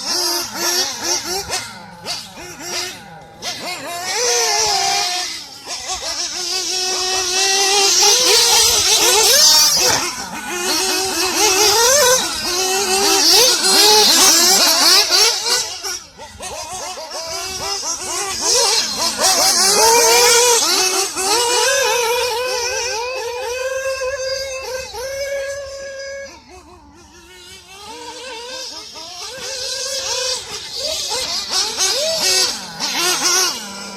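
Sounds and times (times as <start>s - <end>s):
rc buggy engine revving: 0.0s - 33.9s.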